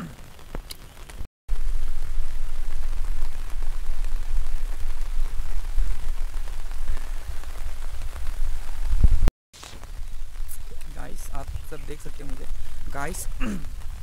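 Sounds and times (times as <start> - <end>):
floodwater rushing: 1.5 - 14.0.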